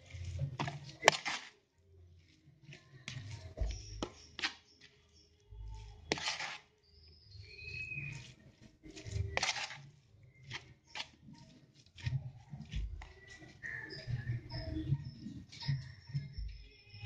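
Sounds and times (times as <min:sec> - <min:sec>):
spoon stirring in plastic bowl: 0:00.0 - 0:17.0.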